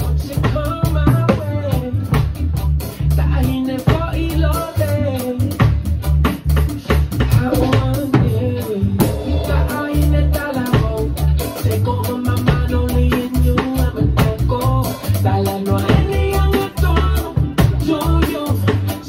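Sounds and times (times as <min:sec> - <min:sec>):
person singing: 0:00.0 - 0:05.8, 0:07.2 - 0:19.0
bassline: 0:00.0 - 0:19.0
drum and cymbal hits: 0:00.0 - 0:19.0.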